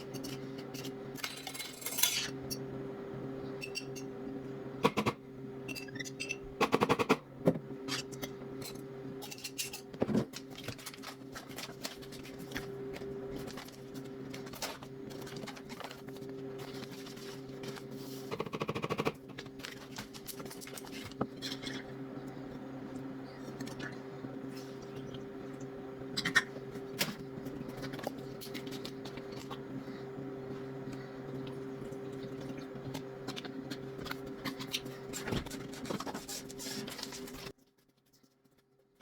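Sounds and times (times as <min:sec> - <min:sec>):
steady low hum: 0:00.0 - 0:37.6.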